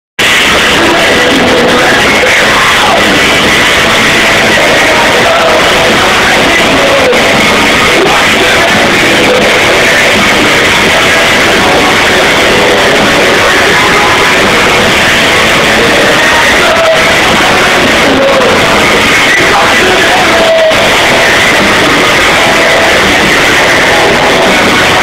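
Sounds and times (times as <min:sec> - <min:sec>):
live rock band playing: 0:00.2 - 0:25.0.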